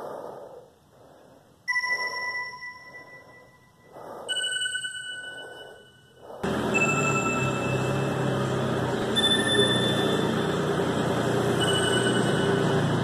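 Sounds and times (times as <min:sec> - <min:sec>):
heavy rhythmic breathing: 0:00.0 - 0:13.0
bell-like tones: 0:01.7 - 0:13.0.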